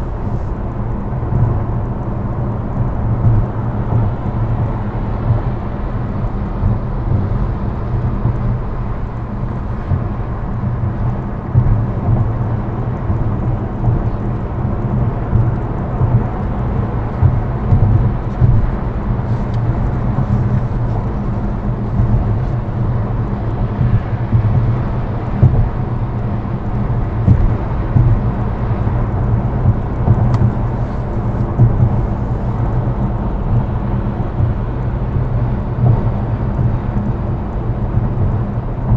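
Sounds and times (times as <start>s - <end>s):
car road and engine rumble: 0.0s - 38.9s
vehicles passing: 0.0s - 38.9s.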